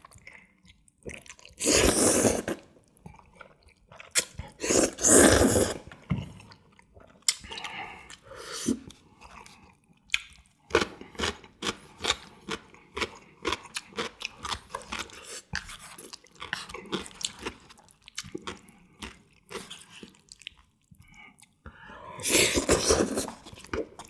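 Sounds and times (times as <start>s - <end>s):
person chewing noodles: 0.0s - 24.0s.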